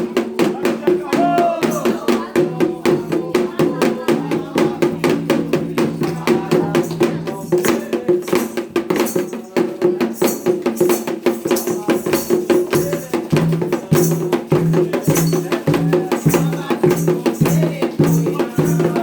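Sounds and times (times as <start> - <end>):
hand percussion fast rhythm: 0.0 - 19.0
voices singing a chant: 0.0 - 19.0.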